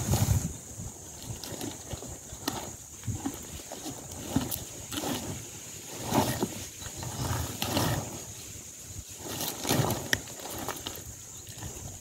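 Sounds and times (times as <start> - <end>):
gulping and scraping: 1.0 - 8.5, 9.1 - 12.0.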